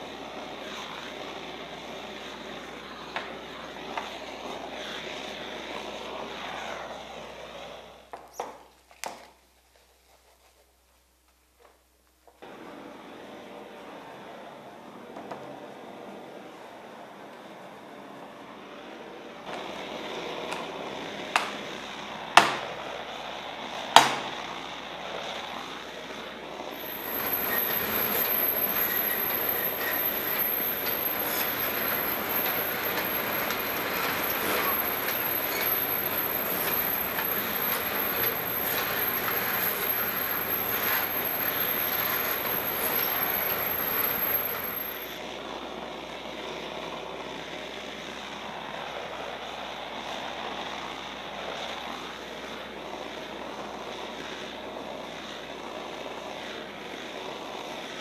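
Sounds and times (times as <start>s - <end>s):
gas torch burning with hiss: 0.0s - 10.0s, 10.6s - 58.0s.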